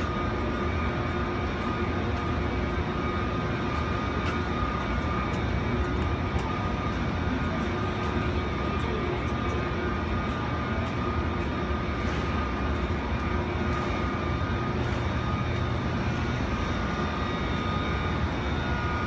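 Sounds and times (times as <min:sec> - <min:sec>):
high-pitched whine: 0:00.0 - 0:19.0
high-speed train passing: 0:00.0 - 0:19.0.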